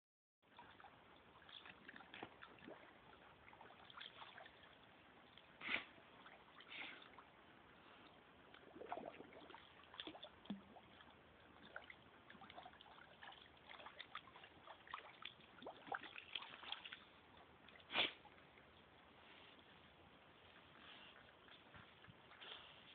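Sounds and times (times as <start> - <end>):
water splashes: 0.4 - 19.4
pool water sloshing and trickling: 0.4 - 22.9.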